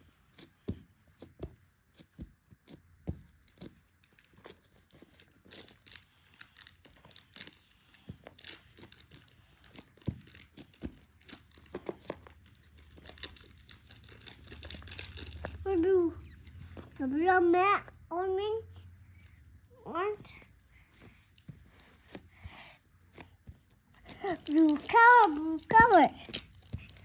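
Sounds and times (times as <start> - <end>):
hands squishing play dough: 0.0 - 17.8, 19.4 - 27.0.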